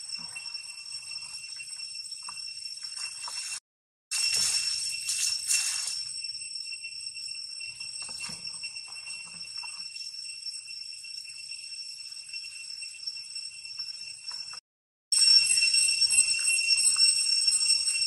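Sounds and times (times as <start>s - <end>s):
insects shrill drone: 0.0s - 14.6s.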